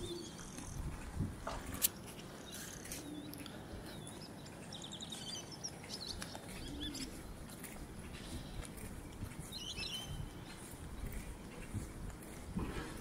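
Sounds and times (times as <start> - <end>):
birds chirping: 0.0 - 13.0
low background noise: 0.0 - 13.0.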